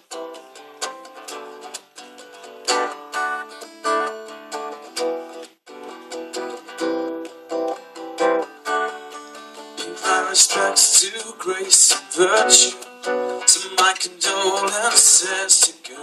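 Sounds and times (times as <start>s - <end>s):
guitar strumming chords: 0.0s - 15.8s.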